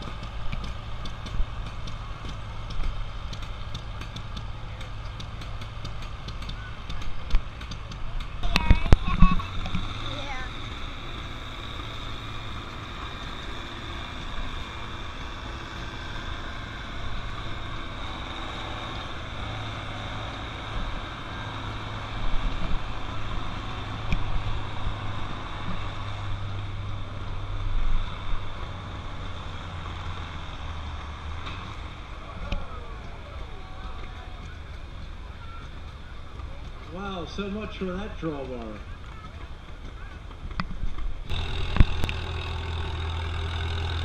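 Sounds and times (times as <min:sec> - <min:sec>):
tractor engine under load: 0:00.0 - 0:44.0.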